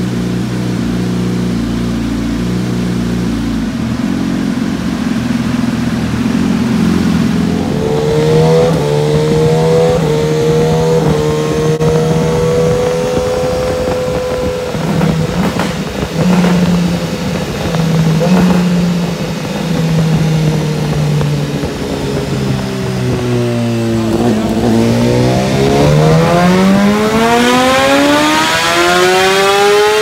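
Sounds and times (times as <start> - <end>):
motorcycle engine running under load: 0.0 - 30.0.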